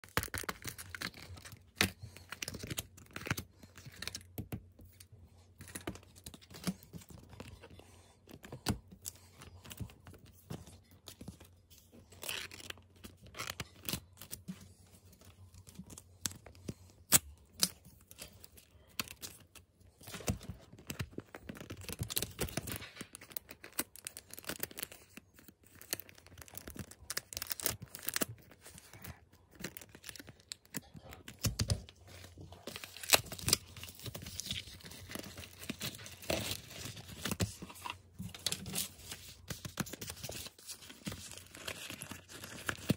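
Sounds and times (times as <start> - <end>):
plastic wrap crinkling: 5.6 - 42.9.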